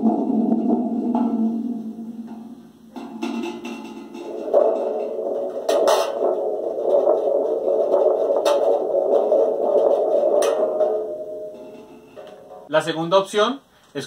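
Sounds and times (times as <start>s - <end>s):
spring thunder drum rumbling: 0.0s - 12.7s.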